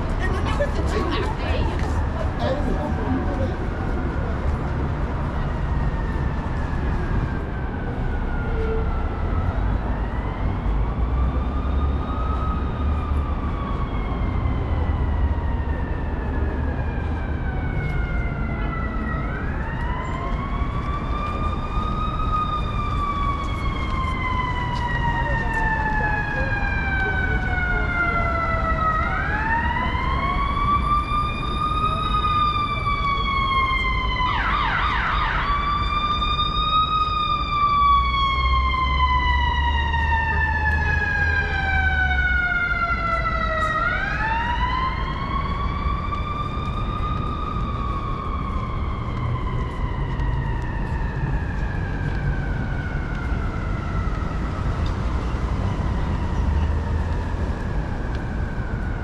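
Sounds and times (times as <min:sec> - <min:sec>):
emergency siren wailing: 0:00.0 - 0:59.0
low traffic rumble: 0:00.0 - 0:59.0.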